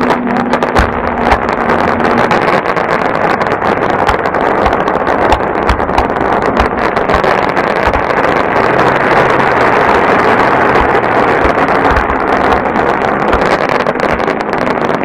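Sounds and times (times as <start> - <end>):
fireworks hissing rush of sparks: 0.0 - 15.0
low thumps: 0.0 - 15.0.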